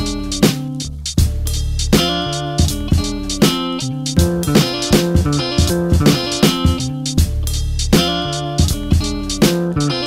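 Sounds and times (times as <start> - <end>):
bass line: 0.0 - 10.0
plucked guitar: 0.0 - 10.0
drum hits: 1.2 - 9.7.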